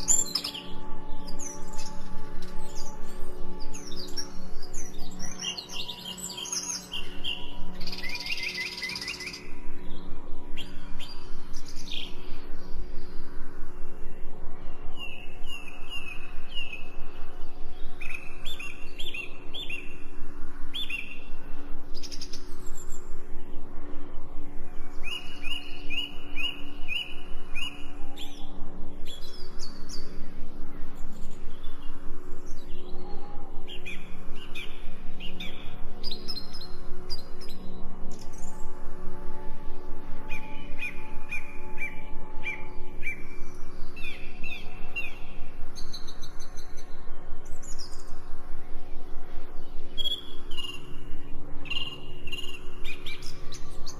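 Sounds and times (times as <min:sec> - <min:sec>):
low humming drone: 0:00.0 - 0:53.9
songbirds chirping: 0:00.0 - 0:53.9.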